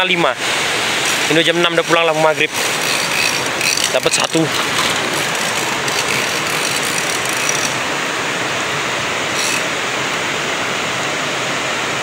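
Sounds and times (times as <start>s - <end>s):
swift river current rushing: 0.2s - 12.0s.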